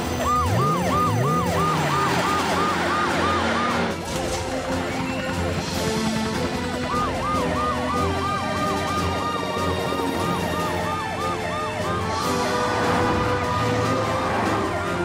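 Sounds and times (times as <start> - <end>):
cartoon sirens wailing: 0.0 - 4.0, 4.6 - 15.0
higher siren cycling: 0.0 - 4.0, 5.0 - 15.0.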